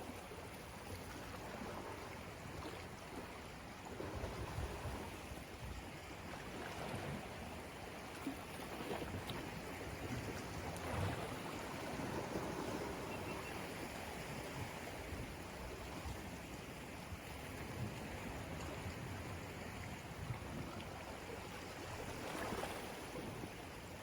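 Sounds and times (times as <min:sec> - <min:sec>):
sea waves washing on shore: 0:00.0 - 0:24.0.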